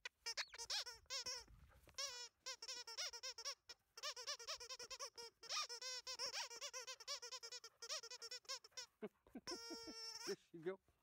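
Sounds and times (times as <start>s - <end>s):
dog toy squeaking: 0.0s - 8.9s, 9.5s - 10.4s.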